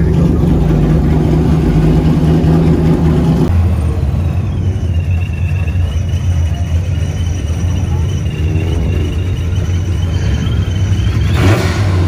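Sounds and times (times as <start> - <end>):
car engine running loudly: 0.0 - 12.0.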